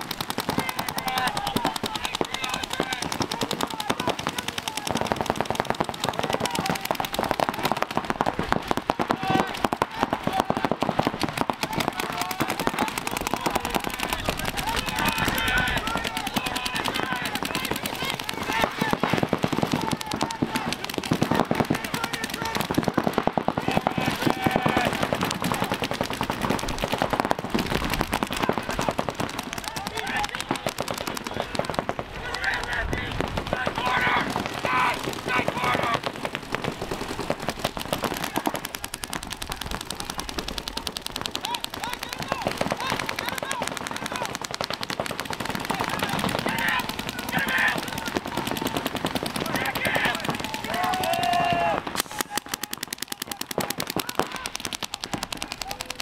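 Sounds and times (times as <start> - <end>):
paintball guns firing: 0.0 - 56.0.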